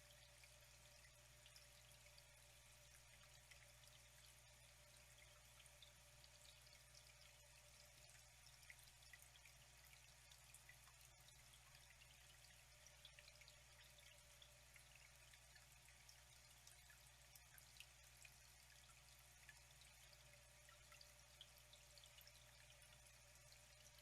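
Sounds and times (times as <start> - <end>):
low steady hum: 0.0 - 24.0
water trickling and dripping: 0.0 - 24.0.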